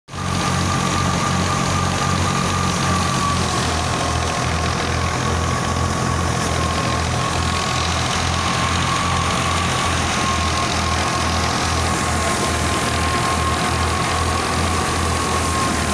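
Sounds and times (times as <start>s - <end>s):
steady high whine: 0.1s - 15.9s
thresher running: 0.1s - 15.9s.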